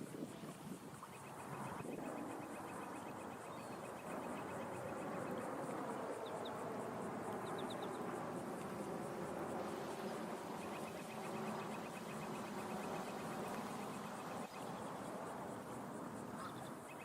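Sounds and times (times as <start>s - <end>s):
fast insect trill: 0.0s - 17.0s.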